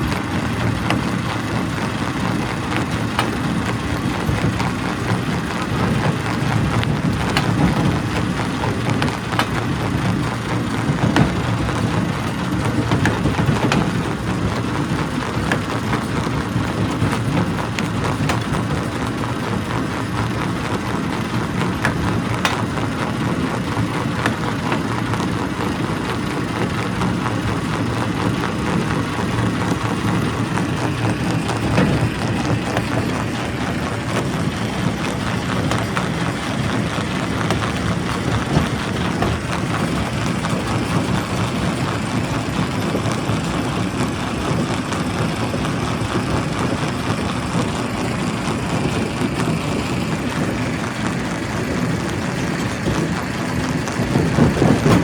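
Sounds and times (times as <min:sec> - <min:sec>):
rock crusher running: 0:00.0 - 0:55.0.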